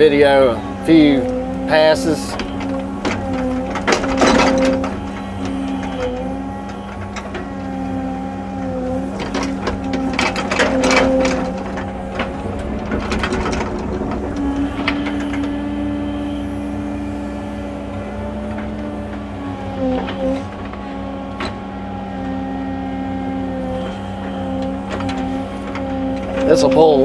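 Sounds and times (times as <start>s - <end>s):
bucket dragging dirt: 0.0s - 27.0s
excavator diesel engine: 0.0s - 27.0s
hydraulic whine: 0.0s - 27.0s.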